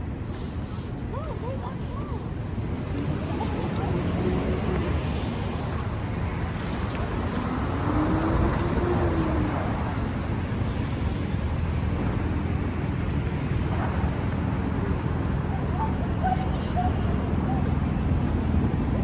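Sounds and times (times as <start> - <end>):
street traffic rumble: 0.0 - 19.0
wind buffeting microphone: 0.1 - 19.0
passing vehicle engine: 2.5 - 19.0.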